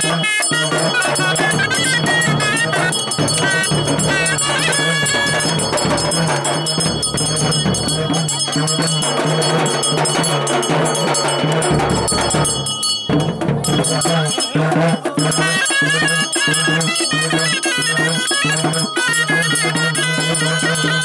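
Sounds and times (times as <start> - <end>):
high wind instrument melody: 0.0 - 21.0
rhythmic drumming and percussion: 0.0 - 21.0.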